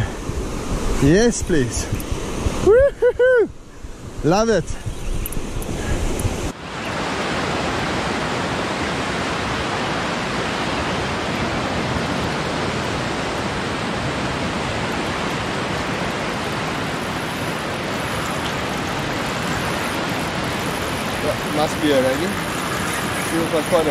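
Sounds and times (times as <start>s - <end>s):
surf rushing on beach: 0.0s - 23.9s.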